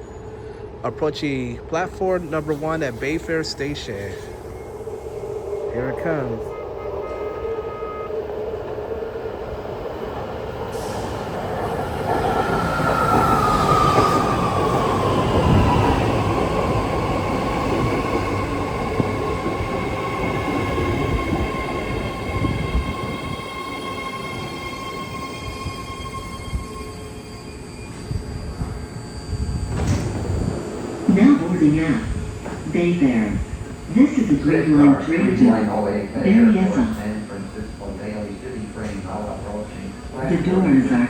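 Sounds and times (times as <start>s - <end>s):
rail and wheel noise: 0.0s - 41.0s
train braking: 0.0s - 41.0s.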